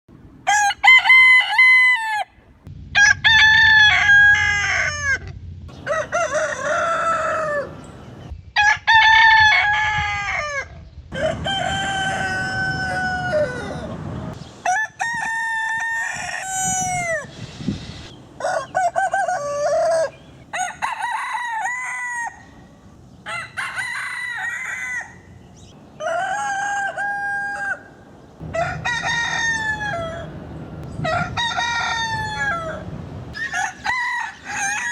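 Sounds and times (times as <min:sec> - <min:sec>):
roosters crowing: 0:00.4 - 0:02.4, 0:03.0 - 0:17.4, 0:18.0 - 0:34.9.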